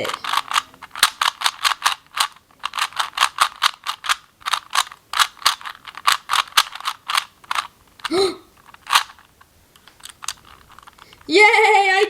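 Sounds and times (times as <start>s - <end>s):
puzzle cube clicking: 0.0s - 11.3s.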